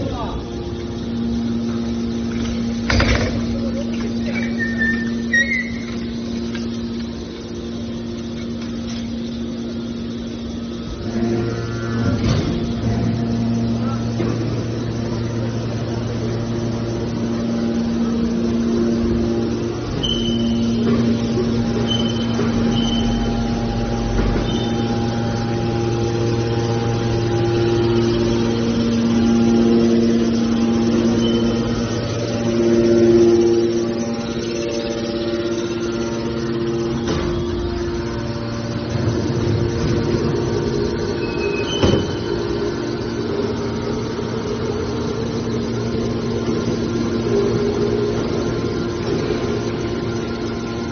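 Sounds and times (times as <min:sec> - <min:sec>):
hydraulic machine hum: 0:00.0 - 0:50.9.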